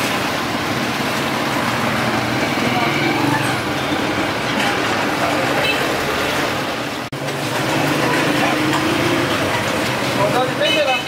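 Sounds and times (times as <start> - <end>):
passing traffic engines: 0.0 - 11.0.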